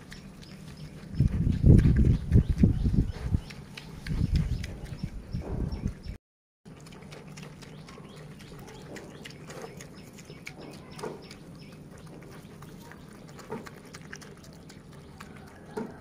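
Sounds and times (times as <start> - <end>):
pig chewing and smacking: 0.0 - 16.0.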